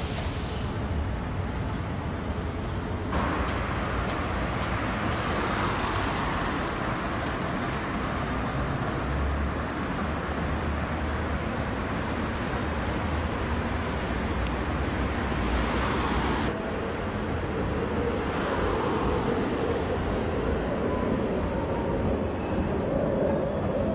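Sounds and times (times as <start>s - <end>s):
road traffic rumble: 0.0s - 23.8s.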